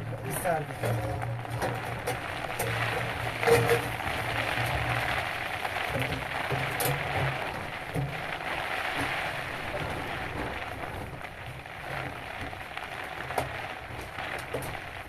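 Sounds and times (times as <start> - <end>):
aluminium pipe crinkling: 0.0 - 15.0.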